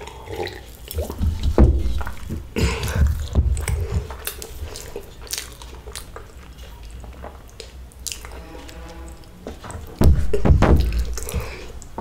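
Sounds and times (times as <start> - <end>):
chewing and eating: 0.0 - 10.0
low steady hum: 0.0 - 12.0.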